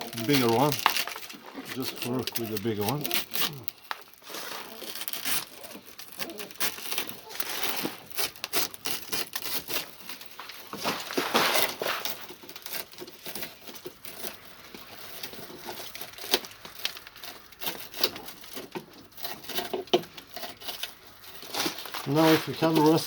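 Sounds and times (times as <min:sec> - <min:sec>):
hand tool scraping adhesive: 0:00.0 - 0:23.0.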